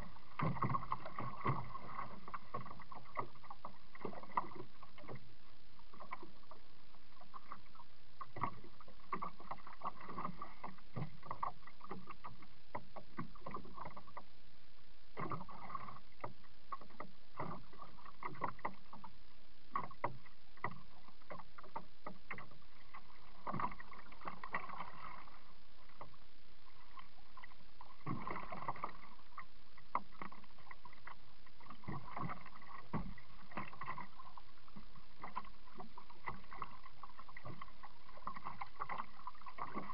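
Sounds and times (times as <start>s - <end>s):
water splashing against plastic hull: 0.0s - 14.3s, 15.2s - 39.9s.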